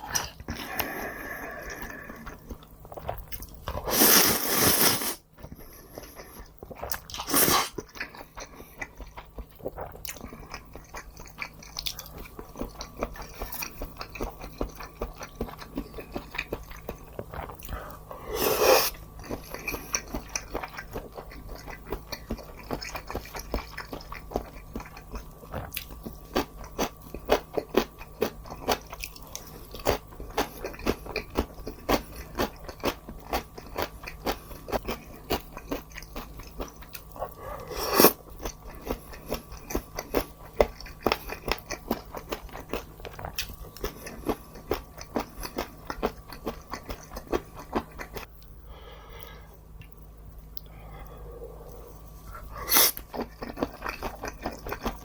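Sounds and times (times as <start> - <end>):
crunchy bites and chewing: 6.5 - 48.3, 50.9 - 55.0.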